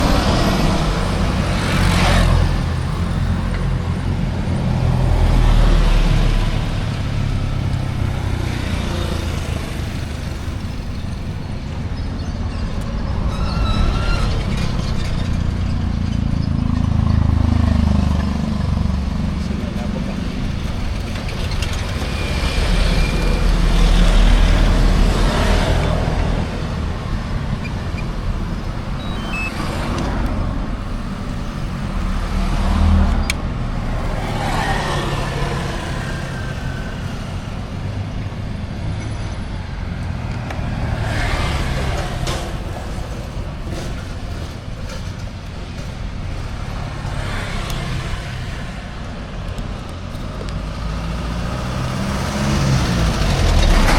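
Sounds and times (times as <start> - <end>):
road traffic rumble: 0.0 - 53.9
vehicles passing: 0.0 - 53.9.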